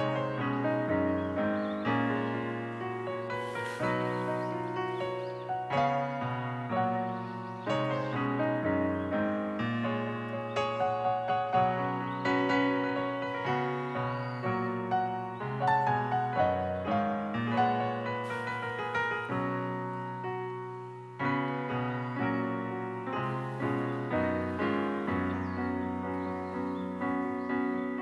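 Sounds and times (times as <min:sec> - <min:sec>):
gentle piano melody: 0:00.0 - 0:28.0.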